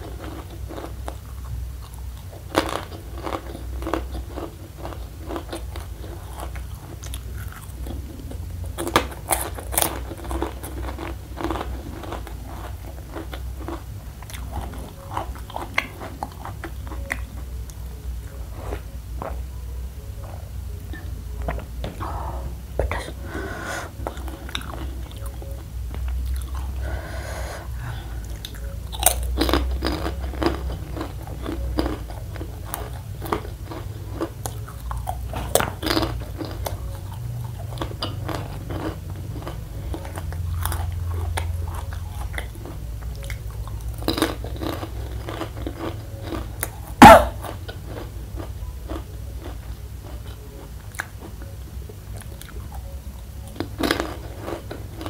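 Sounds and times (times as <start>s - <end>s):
chewing and crunching crispy food: 0.0s - 55.0s.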